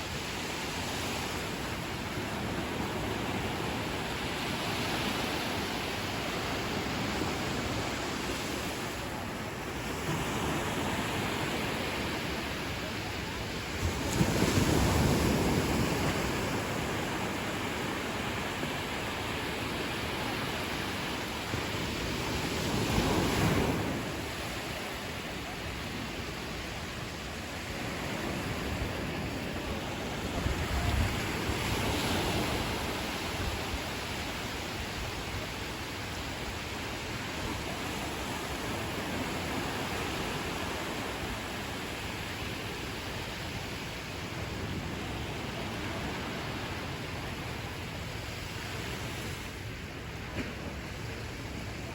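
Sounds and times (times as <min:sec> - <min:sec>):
ocean surf on beach: 0:00.0 - 0:51.9.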